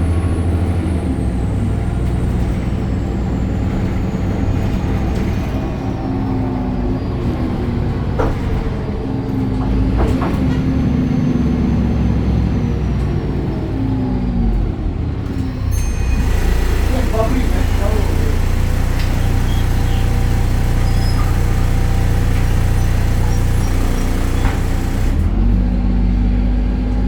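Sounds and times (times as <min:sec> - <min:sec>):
bus diesel engine rumble: 0:00.0 - 0:27.0.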